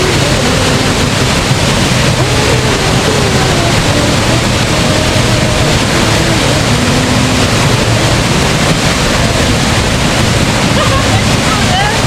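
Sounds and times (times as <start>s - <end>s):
faint voices: 0.0s - 9.3s, 10.0s - 12.0s
rush of water: 0.0s - 12.0s.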